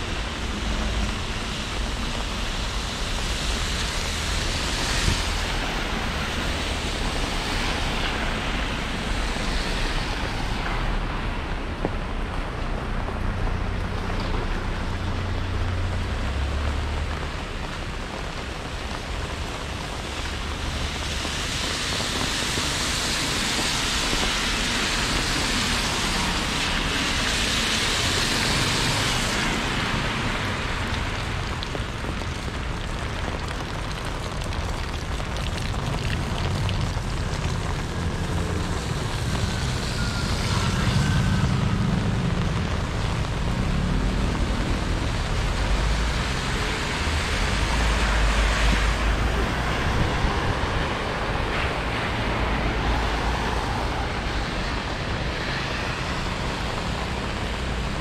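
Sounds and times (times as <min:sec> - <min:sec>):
rain hiss: 0:00.0 - 0:58.0
traffic engine rumble: 0:00.0 - 0:58.0.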